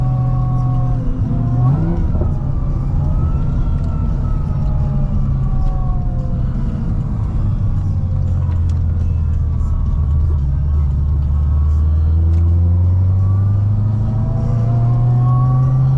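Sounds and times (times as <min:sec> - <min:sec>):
car exhaust rumble: 0:00.0 - 0:15.9
supercharger whine: 0:00.0 - 0:15.9.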